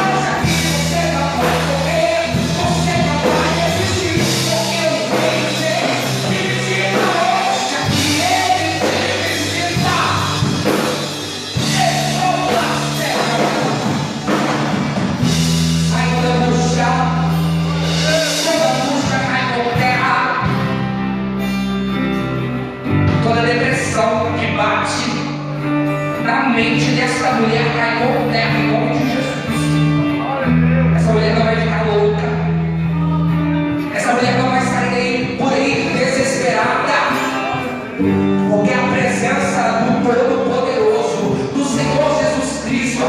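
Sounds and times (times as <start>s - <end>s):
gospel band with voices singing: 0.0s - 43.0s.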